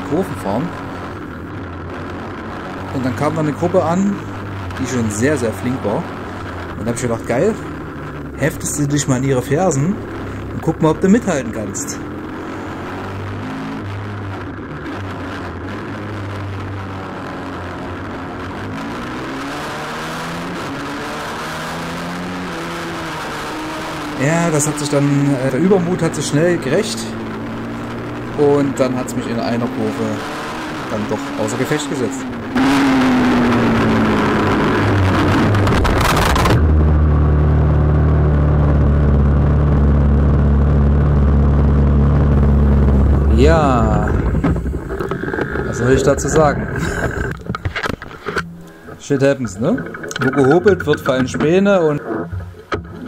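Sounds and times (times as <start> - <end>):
motorbike engine revving: 0.0 - 53.0.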